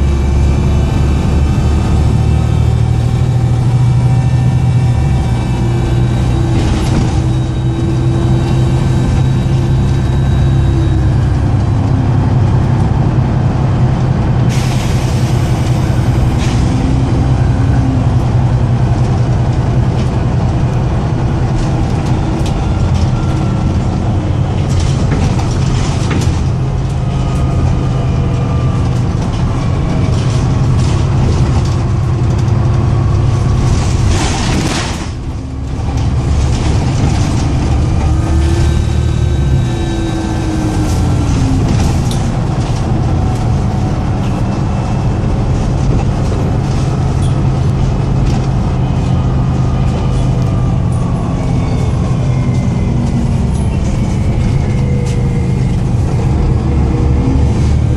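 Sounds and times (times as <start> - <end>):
diesel bus engine running rough: 0.0 - 57.9.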